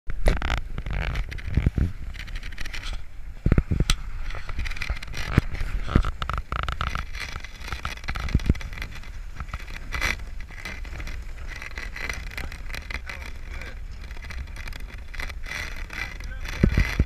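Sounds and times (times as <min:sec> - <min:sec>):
water rushing along hull: 0:00.1 - 0:17.0
wind buffeting microphone: 0:00.1 - 0:17.0.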